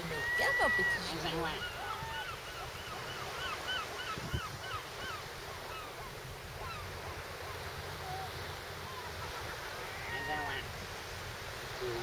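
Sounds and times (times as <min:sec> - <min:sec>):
gulls calling: 0:00.0 - 0:10.8
wind and surf rumble: 0:00.0 - 0:12.0.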